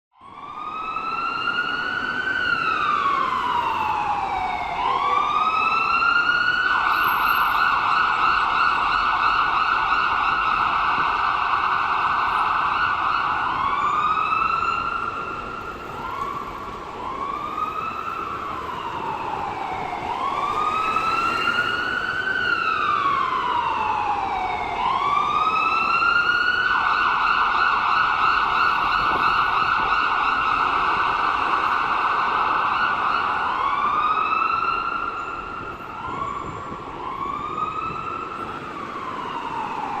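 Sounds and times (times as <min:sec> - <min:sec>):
ambulance siren: 0:00.1 - 0:40.0.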